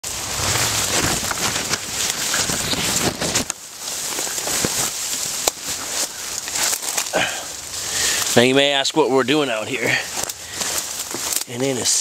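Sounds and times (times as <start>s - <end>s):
leaves rustling against microphone: 0.0s - 12.0s
twigs snapping: 0.3s - 8.4s, 10.0s - 11.6s.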